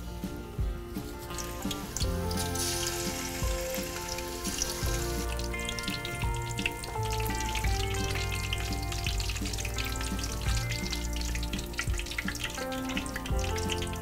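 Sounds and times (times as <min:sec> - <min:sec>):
tofu sizzling in oil: 0:01.3 - 0:14.0.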